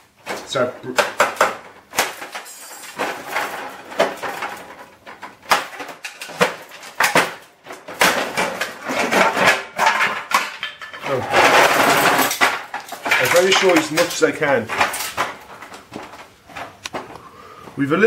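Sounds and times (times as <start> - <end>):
printer housing breaking apart: 0.2 - 17.1
metal rattling: 0.2 - 17.2.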